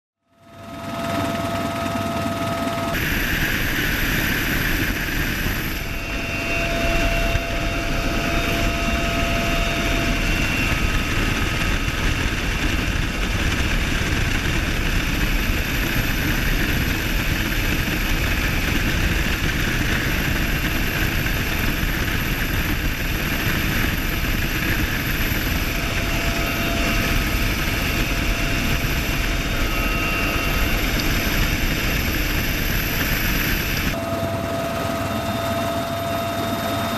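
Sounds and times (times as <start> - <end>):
helicopter rotor and turbine: 0.2 - 36.9
steady whining tones: 0.4 - 36.9.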